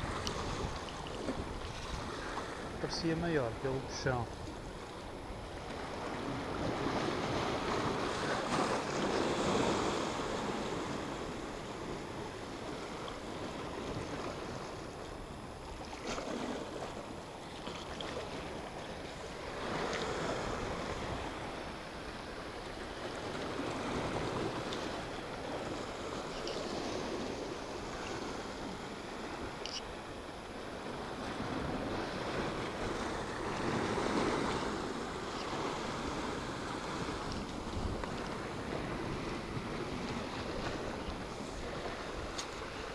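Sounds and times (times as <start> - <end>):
sea waves breaking on rocks: 0.0 - 29.6, 30.3 - 42.9.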